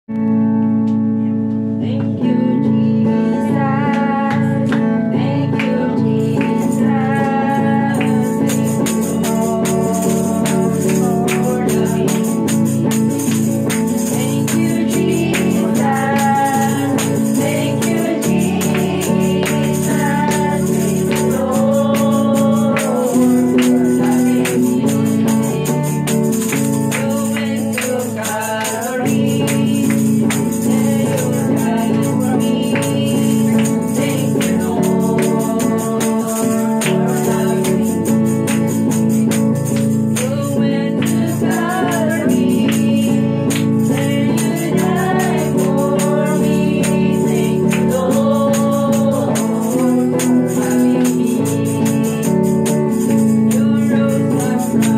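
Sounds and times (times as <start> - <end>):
electric guitar: 0.0 - 54.9
woman singing worship song: 1.2 - 54.9
steady percussion rhythm: 3.9 - 54.9.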